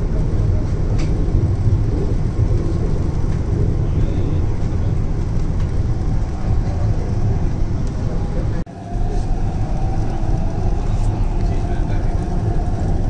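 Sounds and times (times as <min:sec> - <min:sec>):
train rumble inside coach: 0:00.0 - 0:13.0.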